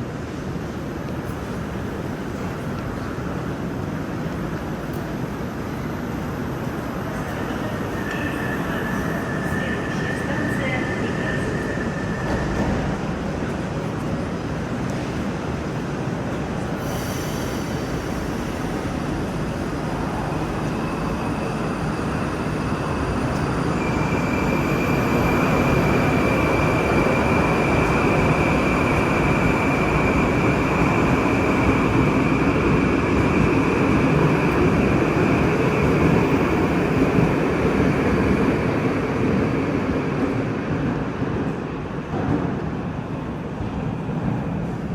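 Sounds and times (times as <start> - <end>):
metro train rumble: 0.0 - 44.9.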